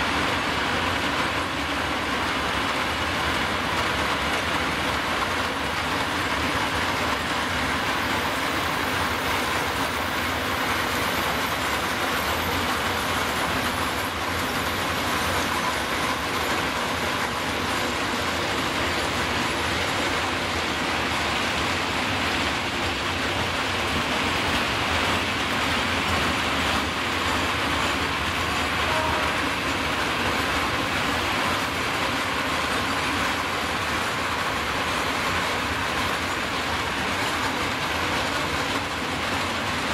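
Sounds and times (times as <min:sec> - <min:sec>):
freight train wheels on rails: 0:00.0 - 0:39.9.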